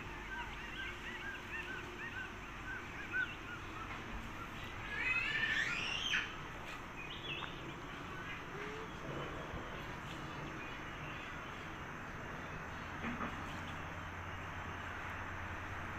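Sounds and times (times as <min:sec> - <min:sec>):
overlapping bird calls: 0:00.0 - 0:15.4
birds chirping: 0:00.0 - 0:15.9.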